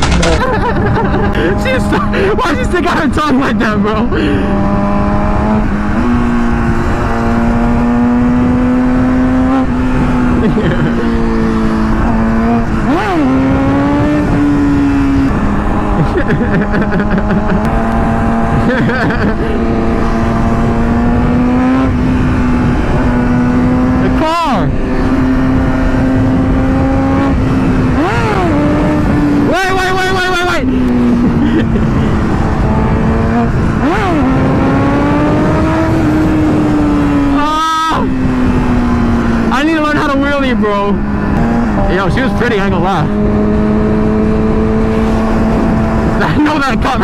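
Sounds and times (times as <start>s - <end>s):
motorcycle engine running: 0.0s - 47.0s
rushing wind noise: 0.0s - 47.0s.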